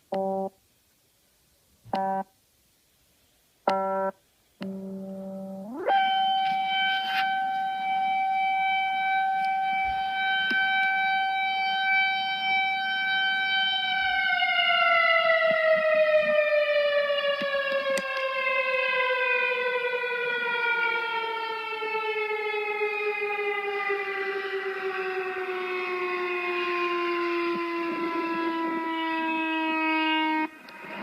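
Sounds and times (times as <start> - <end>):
tornado warning siren: 3.7 - 31.0.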